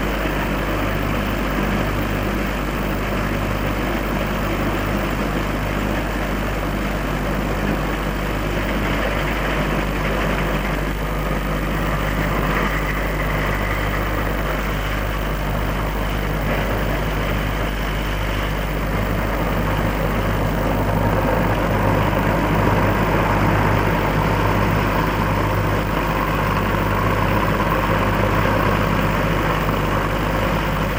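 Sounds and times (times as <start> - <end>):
combine harvester engine running: 0.0 - 30.9.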